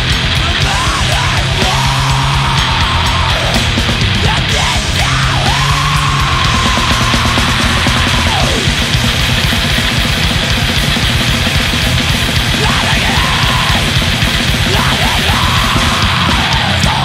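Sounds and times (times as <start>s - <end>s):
distorted electric guitars: 0.0s - 17.0s
fast pounding drums: 0.0s - 17.0s.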